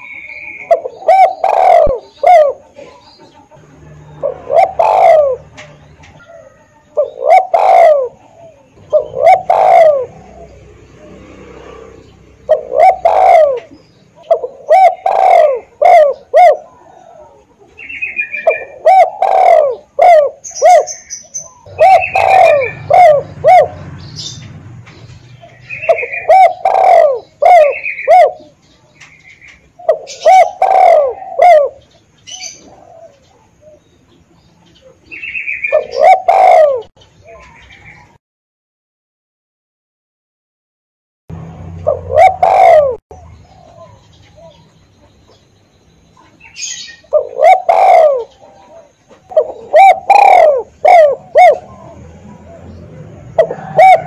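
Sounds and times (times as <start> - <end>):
dove cooing: 0.0 - 33.9, 34.8 - 38.1, 41.7 - 44.8, 46.2 - 54.0.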